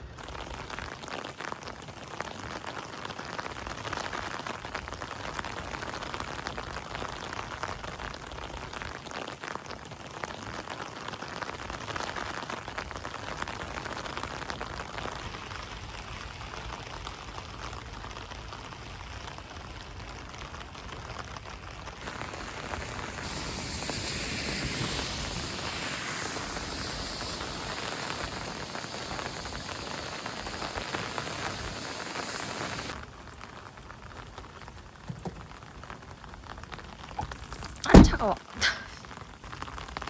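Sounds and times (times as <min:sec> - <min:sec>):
rain on a car roof: 0:00.0 - 0:40.0.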